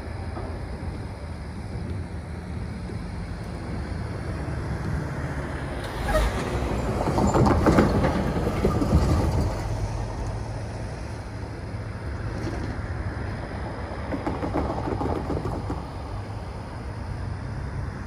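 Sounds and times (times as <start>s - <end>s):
tires clattering over rails: 0.0s - 18.0s.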